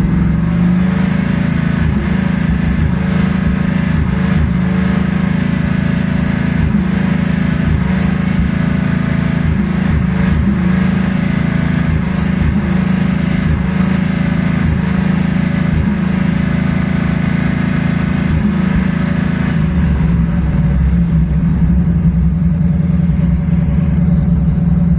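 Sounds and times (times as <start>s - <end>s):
misfiring car engine: 0.0s - 24.9s.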